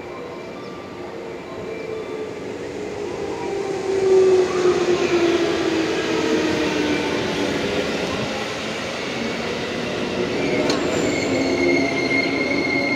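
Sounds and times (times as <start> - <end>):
electric train running past: 0.0 - 12.9.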